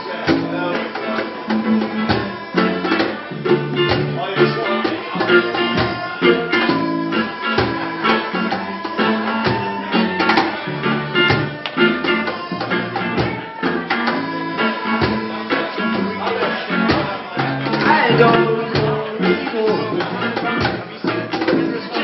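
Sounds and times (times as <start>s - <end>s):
accordion sustained notes: 0.0s - 22.0s
cajon beat: 0.0s - 22.0s
strummed guitar: 0.0s - 22.0s.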